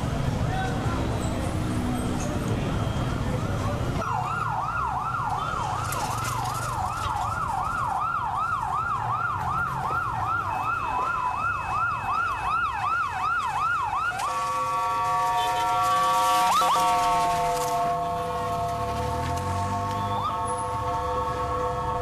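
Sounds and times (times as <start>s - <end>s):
low street rumble: 0.0s - 22.0s
faint second siren: 2.8s - 22.0s
emergency siren yelping: 4.0s - 22.0s.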